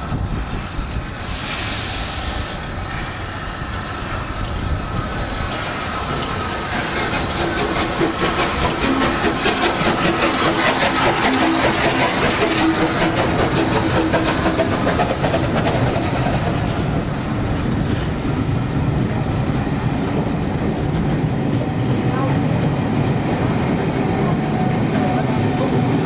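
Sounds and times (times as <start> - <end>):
rumble of train wheels: 0.0 - 26.0
steam locomotive exhaust beats: 0.0 - 26.0.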